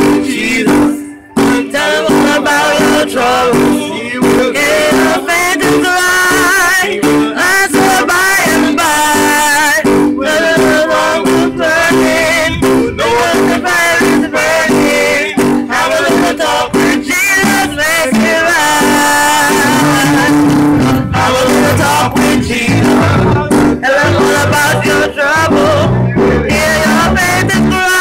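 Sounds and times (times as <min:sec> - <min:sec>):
electric keyboard through amplifiers: 0:00.0 - 0:28.0
man singing into microphone: 0:00.0 - 0:28.0.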